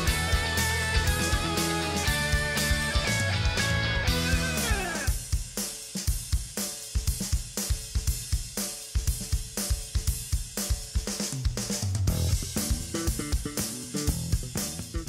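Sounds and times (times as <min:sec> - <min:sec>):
drum kit beat: 0:00.0 - 0:15.0
rock backing music: 0:00.0 - 0:15.0.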